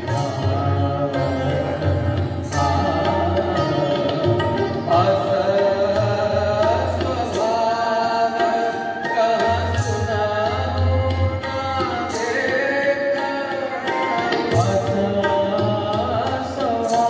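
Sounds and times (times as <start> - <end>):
devotional song: 0.0 - 17.0
tabla drum pulse: 0.0 - 17.0.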